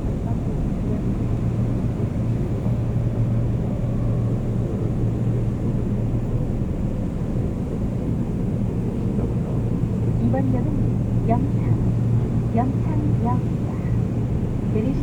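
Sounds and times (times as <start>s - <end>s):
train rumbling from inside: 0.0s - 15.0s.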